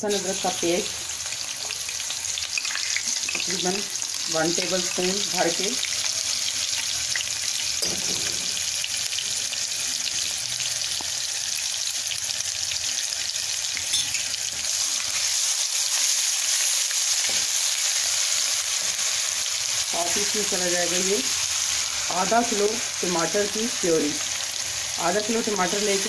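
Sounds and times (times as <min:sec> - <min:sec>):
paste sizzling in pan: 0:00.0 - 0:26.0.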